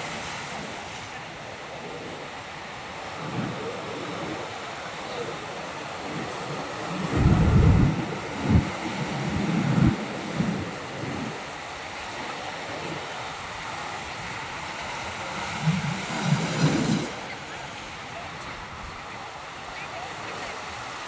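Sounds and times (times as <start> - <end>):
surf washing over rocky shore: 0.0 - 21.0
wind buffeting microphone: 0.0 - 21.0.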